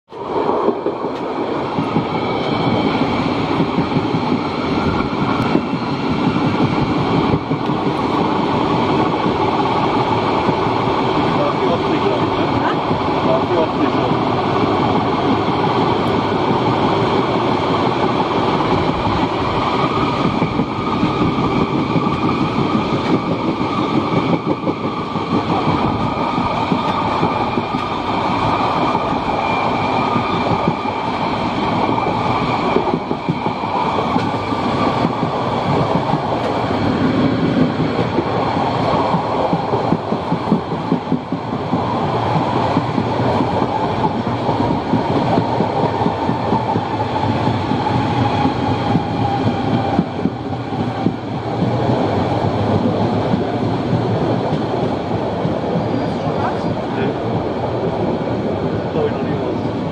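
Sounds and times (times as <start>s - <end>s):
train wheels clattering on track: 0.1s - 59.9s.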